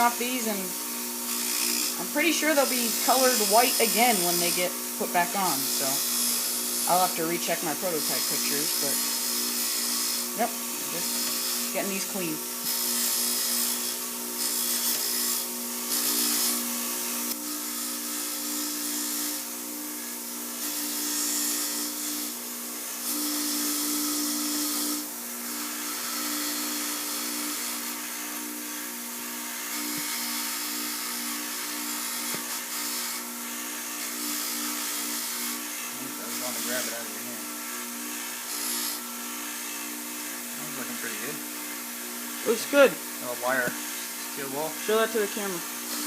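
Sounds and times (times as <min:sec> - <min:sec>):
power tool motor hum: 0:00.0 - 0:46.0.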